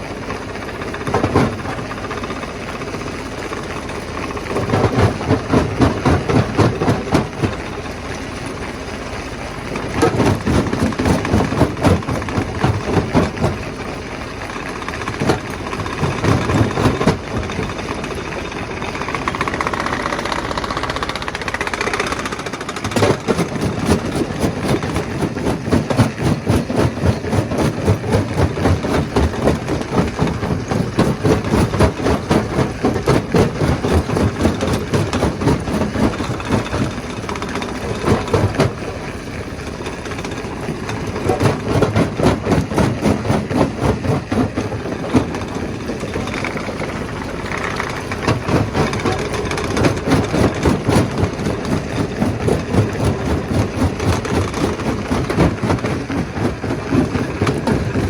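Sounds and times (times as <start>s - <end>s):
stone crusher clatter: 0.6s - 2.2s, 3.9s - 8.6s, 9.7s - 58.0s.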